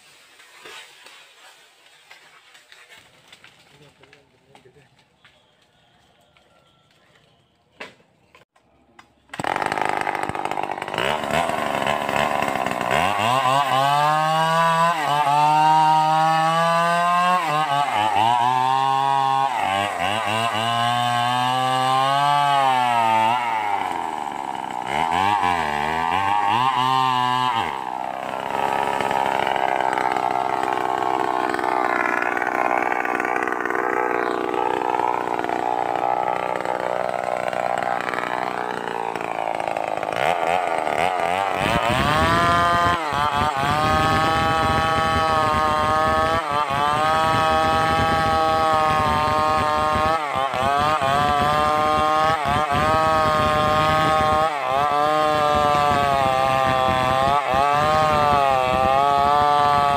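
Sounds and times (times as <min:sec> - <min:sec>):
chainsaw revving: 0:09.4 - 0:59.9.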